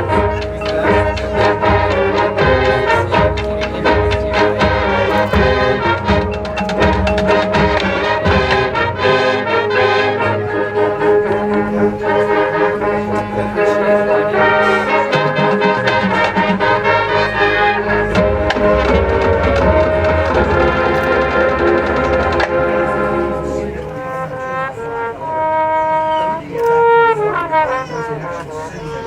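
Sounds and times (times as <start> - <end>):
drumline hits: 0.0 - 24.4
brass playing sustained chords: 0.0 - 29.0.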